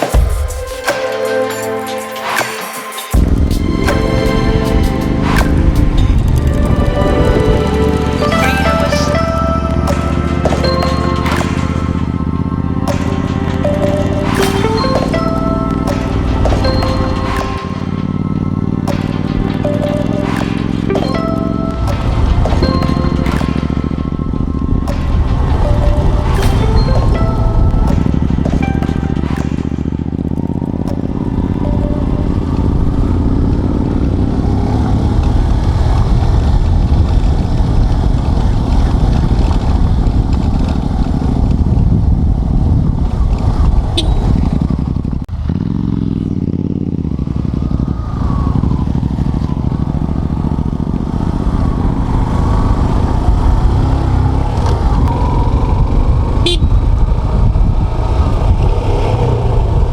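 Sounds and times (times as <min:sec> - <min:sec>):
wind rumble: 0:03.2 - 0:14.6, 0:15.2 - 0:59.9
motorcycle engine running: 0:03.2 - 0:59.9.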